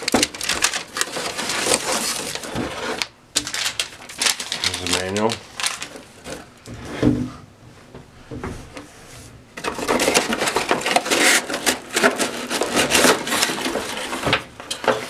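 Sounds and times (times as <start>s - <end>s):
packaging crinkling and rustling: 0.0s - 6.8s, 9.6s - 15.0s.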